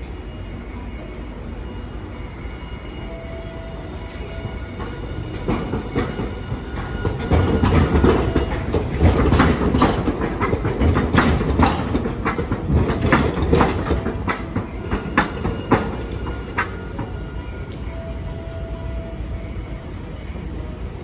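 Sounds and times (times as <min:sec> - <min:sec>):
tram running rumble: 0:00.0 - 0:21.0
tram wheels clacking: 0:00.0 - 0:21.0.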